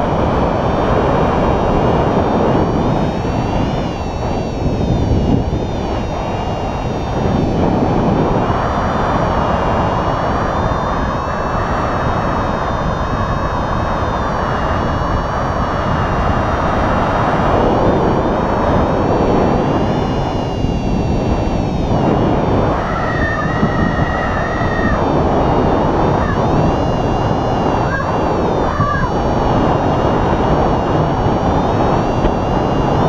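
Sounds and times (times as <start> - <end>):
steady high tone: 0.0 - 33.0
wind rushing over microphone: 0.0 - 33.0.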